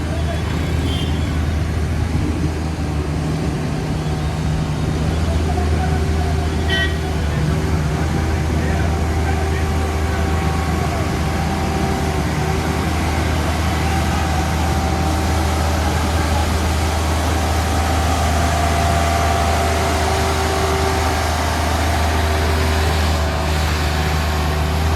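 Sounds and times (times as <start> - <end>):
truck engine droning: 0.0 - 24.9.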